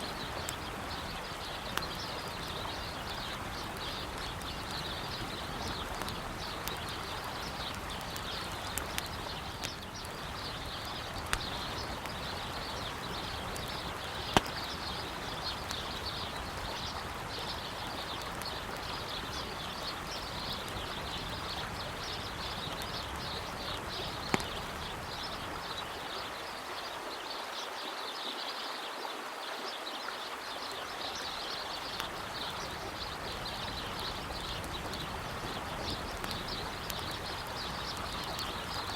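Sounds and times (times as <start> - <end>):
campfire crackling and popping: 0.0 - 27.0, 30.9 - 38.9
birds chirping: 0.0 - 28.8, 29.4 - 38.9
river flowing: 0.0 - 38.9.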